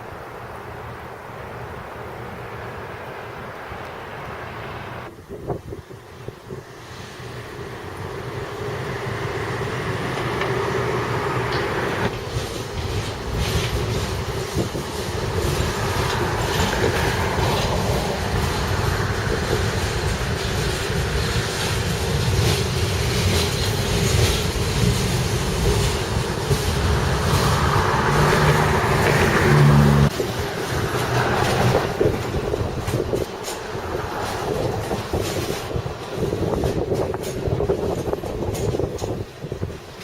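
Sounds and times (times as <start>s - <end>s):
train wheels rumbling on rails: 3.9s - 40.0s.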